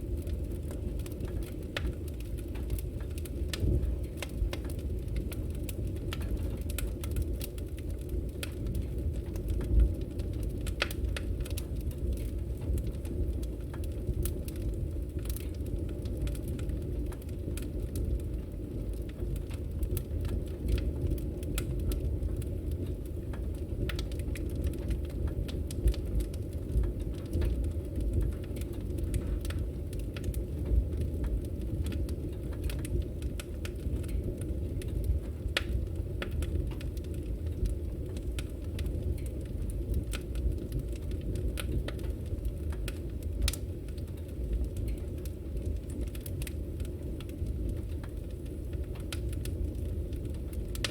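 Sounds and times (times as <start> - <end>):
wood crackling and popping: 0.0 - 50.9
wood fire burning: 0.0 - 50.9.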